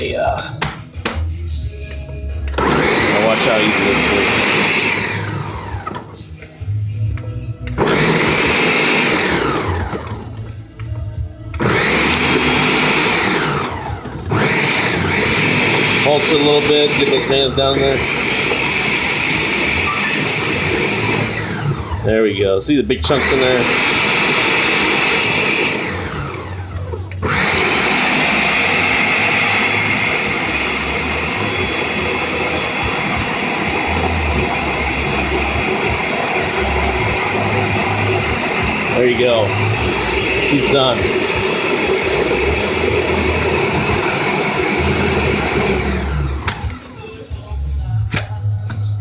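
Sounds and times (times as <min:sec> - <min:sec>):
blender motor chopping frozen fruit: 0:02.5 - 0:06.1, 0:07.7 - 0:10.3, 0:11.6 - 0:22.1, 0:23.0 - 0:46.9.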